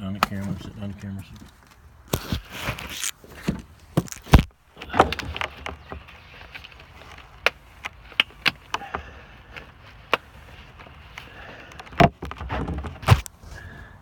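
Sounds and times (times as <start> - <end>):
sharp clicks and rubbing: 0.2 - 13.4.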